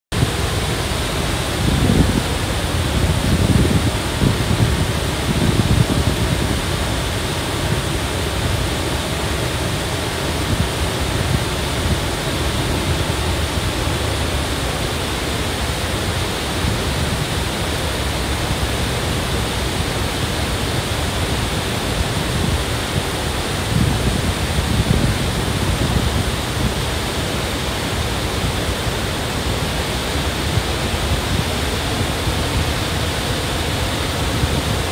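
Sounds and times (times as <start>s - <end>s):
waterfall rushing into pool: 0.1s - 34.9s.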